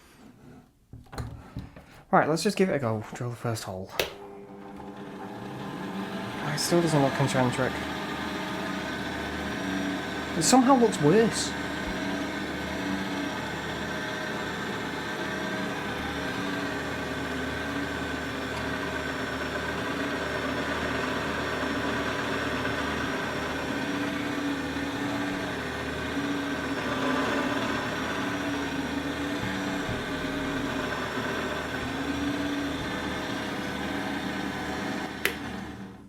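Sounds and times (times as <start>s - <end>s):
drill motor humming: 4.6s - 36.0s.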